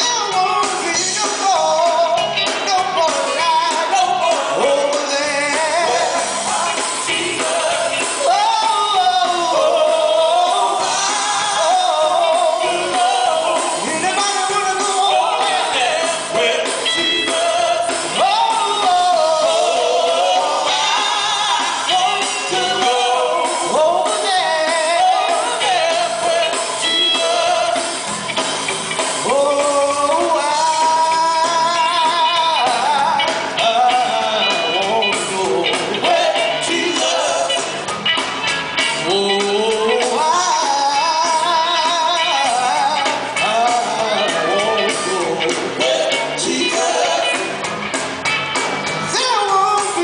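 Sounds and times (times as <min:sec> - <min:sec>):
vocal group singing gospel: 0:00.0 - 0:38.0, 0:38.9 - 0:47.7, 0:49.1 - 0:50.0
band with electric guitar: 0:00.0 - 0:50.0.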